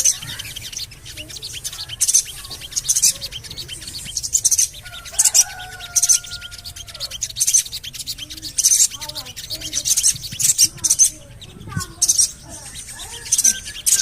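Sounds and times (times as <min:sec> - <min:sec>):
bird chirping rapidly: 0:00.0 - 0:14.0.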